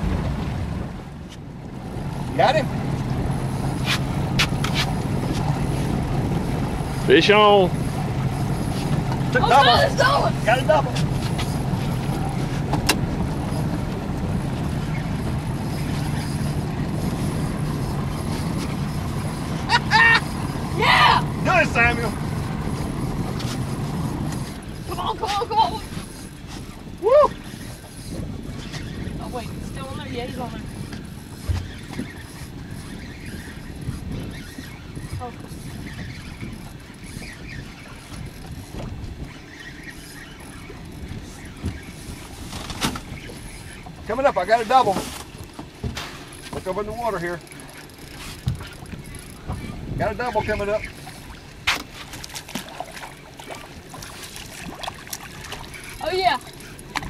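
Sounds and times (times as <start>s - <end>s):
outboard motor humming: 0.0s - 57.0s
water noise: 0.0s - 57.0s
wind: 0.0s - 57.0s.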